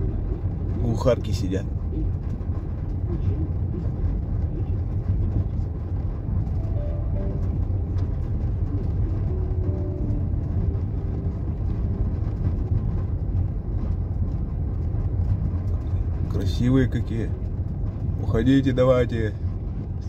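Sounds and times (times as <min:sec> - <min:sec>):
engine and tyres rumbling on gravel: 0:00.0 - 0:20.0.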